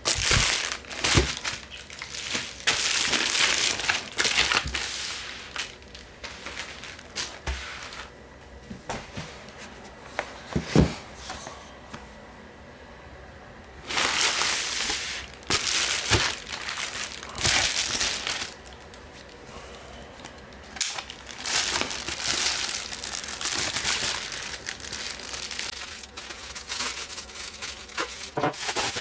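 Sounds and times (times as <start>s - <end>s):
packaging crinkling and rustling: 0.0s - 8.2s, 13.8s - 29.0s.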